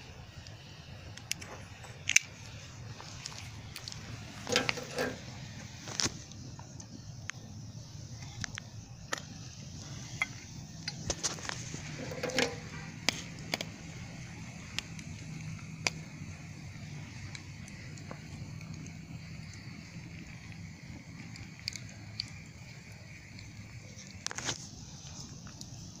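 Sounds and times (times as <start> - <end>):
low fire rumble: 0.0 - 26.0
campfire crackling and popping: 0.1 - 26.0.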